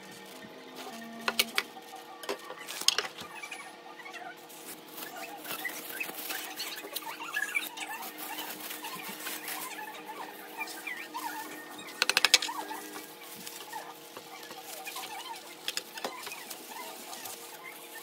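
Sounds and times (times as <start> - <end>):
plastic glove crinkling: 0.0 - 18.0.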